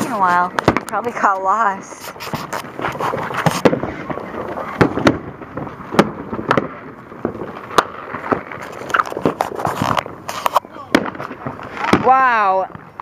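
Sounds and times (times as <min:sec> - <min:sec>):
fireworks crackling hiss: 0:00.0 - 0:13.0
fireworks popping: 0:00.0 - 0:13.0.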